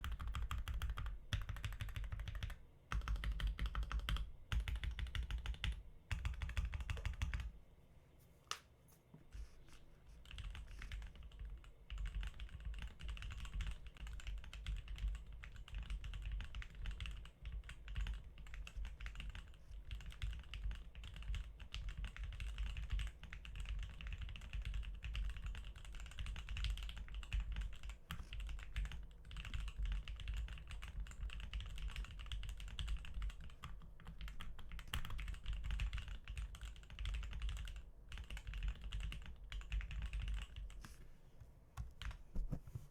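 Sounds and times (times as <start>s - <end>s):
mechanical keyboard typing: 0.0s - 7.5s, 10.2s - 40.8s.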